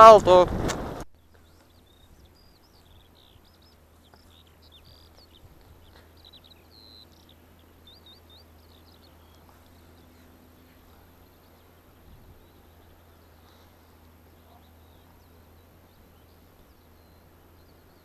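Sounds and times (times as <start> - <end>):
steady low hum: 0.0 - 18.0
songbird chirping and whistling: 1.2 - 18.0.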